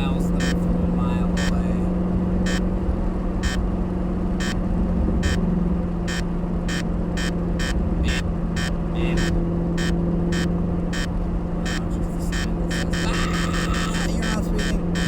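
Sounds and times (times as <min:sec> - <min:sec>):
car engine cruising drone: 0:00.0 - 0:15.0.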